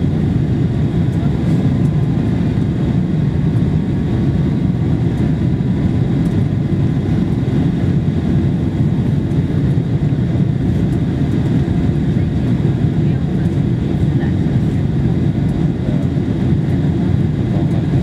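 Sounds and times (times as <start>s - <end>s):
airplane cabin roar: 0.0s - 18.0s.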